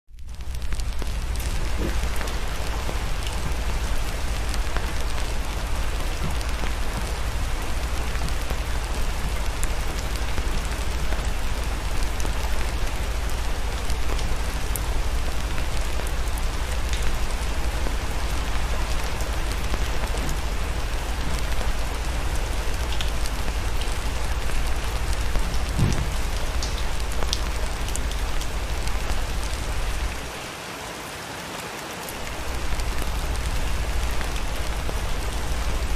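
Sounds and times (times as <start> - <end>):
sharp ticks and crackles: 0.1 - 30.3
heavy rain pattering: 0.1 - 35.9.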